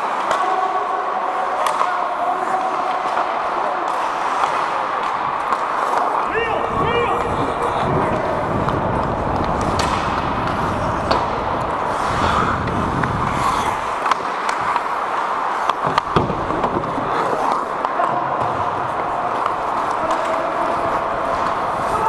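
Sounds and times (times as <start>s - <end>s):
hockey sticks and puck clacking: 0.0s - 22.0s
skates scraping on ice: 0.0s - 22.0s.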